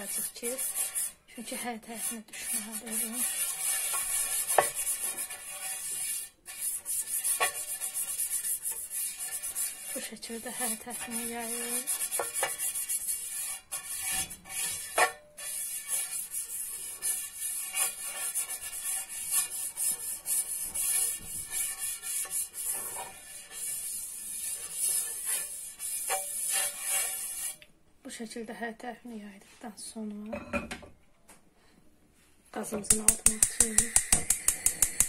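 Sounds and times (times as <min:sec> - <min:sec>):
brush rubbing oil on pan: 0:00.0 - 0:27.6, 0:33.0 - 0:35.0.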